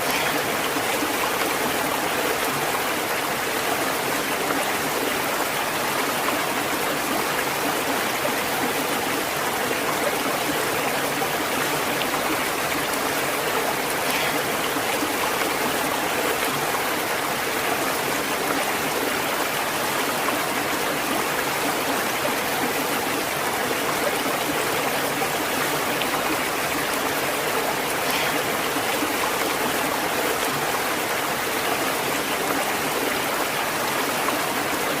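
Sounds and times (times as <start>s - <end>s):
stream of running water: 0.0s - 35.0s.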